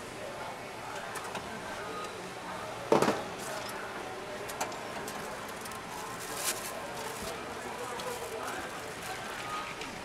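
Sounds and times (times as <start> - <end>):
hubbub of voices: 0.0 - 10.0.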